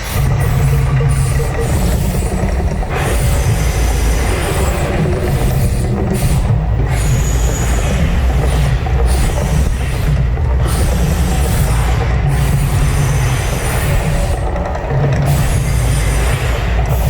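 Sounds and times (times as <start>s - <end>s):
hiss: 0.0s - 14.5s
loud low rumble: 0.0s - 16.9s.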